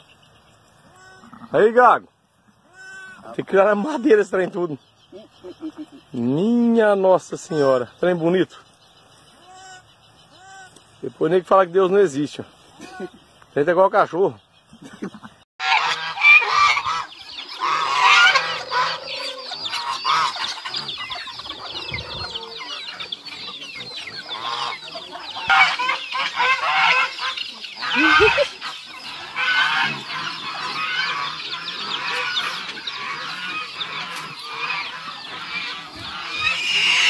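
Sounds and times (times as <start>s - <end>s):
poultry flock clucking and honking: 0.0s - 37.0s.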